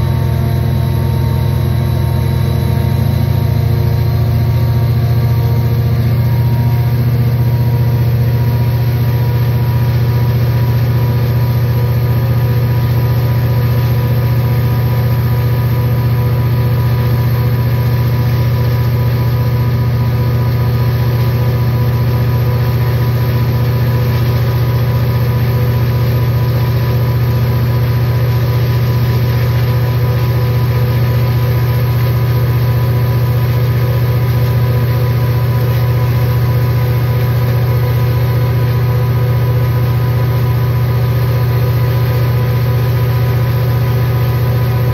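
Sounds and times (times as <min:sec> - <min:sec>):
diesel locomotive engine droning: 0:00.0 - 0:44.9.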